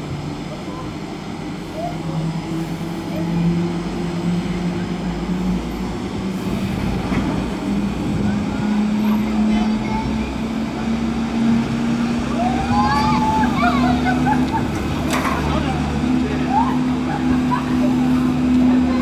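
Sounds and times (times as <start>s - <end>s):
gondola lift mechanical drone: 0.0s - 19.0s.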